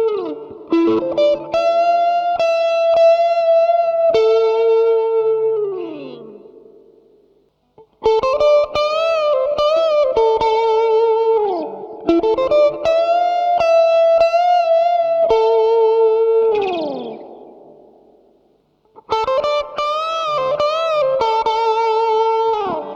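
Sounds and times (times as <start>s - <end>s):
electric guitar with vibrato: 0.0s - 22.9s.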